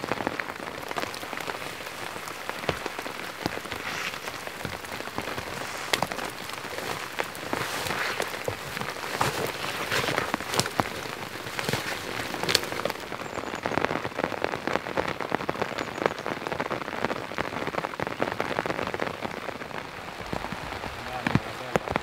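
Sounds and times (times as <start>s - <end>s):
heavy rain on a tent: 0.0s - 22.0s.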